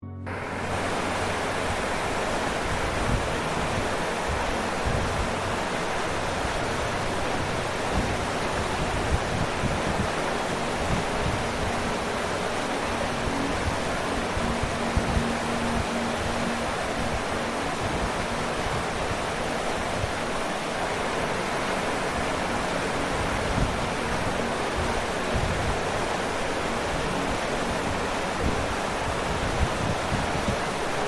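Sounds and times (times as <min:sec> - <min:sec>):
waterfall rushing: 0:00.3 - 0:31.0.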